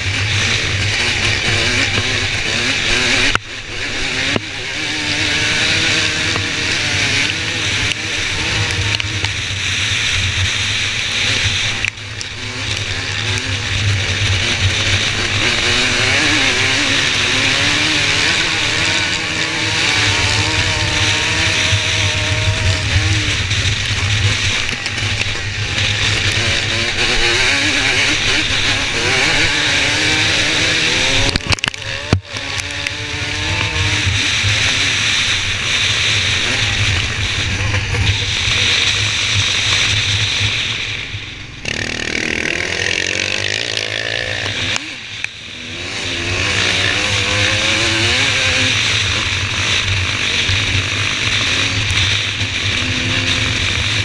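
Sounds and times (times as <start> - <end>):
other motorcycle engines: 0.0 - 54.0
racing motorcycle engine: 0.0 - 54.0.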